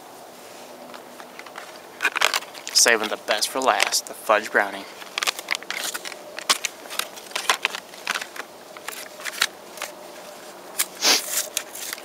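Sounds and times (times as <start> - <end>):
packaging crinkling: 1.2 - 12.0.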